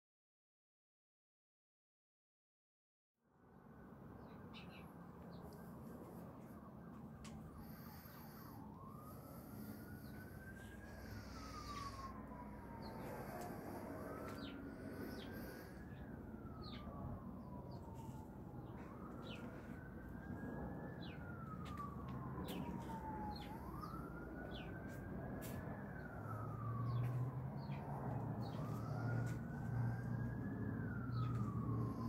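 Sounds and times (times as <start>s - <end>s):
faint wailing siren: 3.2s - 32.0s
steady low rumble: 5.1s - 32.0s.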